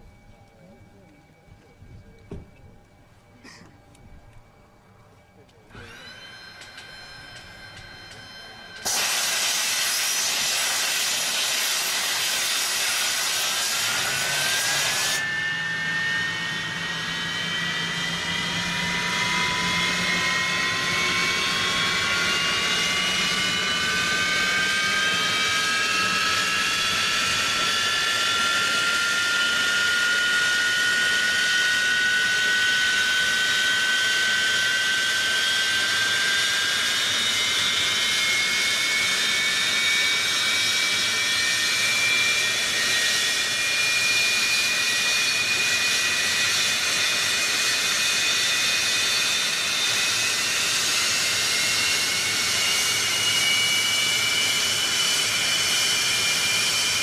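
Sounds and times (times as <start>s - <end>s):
jet engine spooling up: 5.6s - 57.0s.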